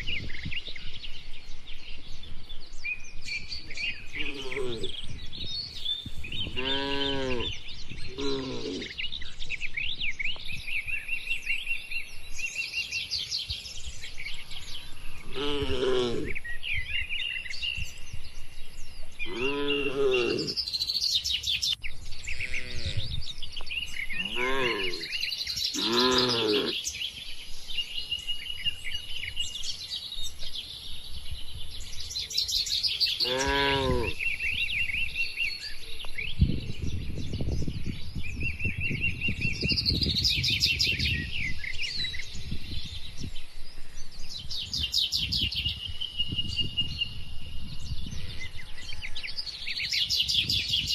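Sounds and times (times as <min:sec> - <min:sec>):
birds chirping and singing: 0:00.0 - 0:50.9.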